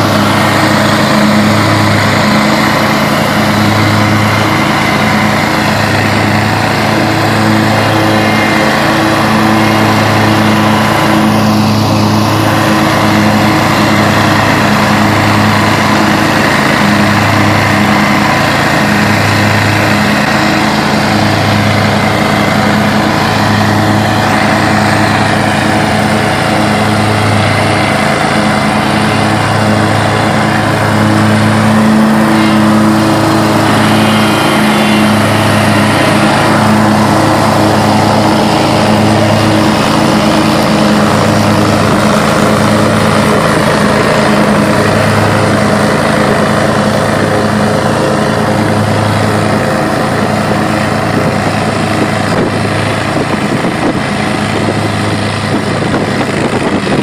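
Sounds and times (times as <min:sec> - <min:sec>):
mower blade noise: 0:00.0 - 0:57.0
mower engine drone: 0:00.0 - 0:57.0.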